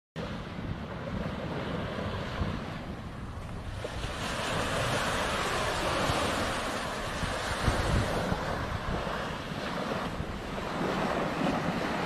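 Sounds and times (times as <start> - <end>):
sea surf breaking on beach: 0.2 - 12.0
wind gusting on microphone: 0.2 - 12.0.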